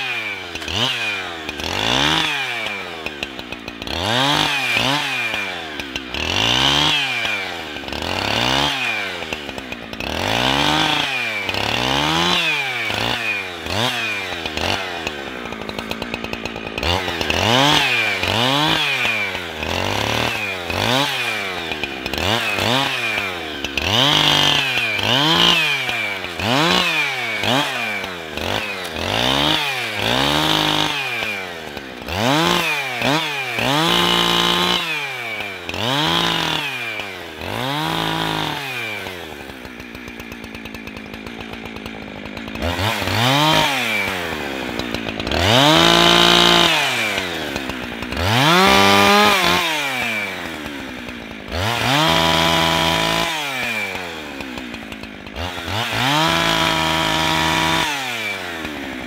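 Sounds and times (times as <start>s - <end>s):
chainsaw cutting branches: 0.0s - 59.0s.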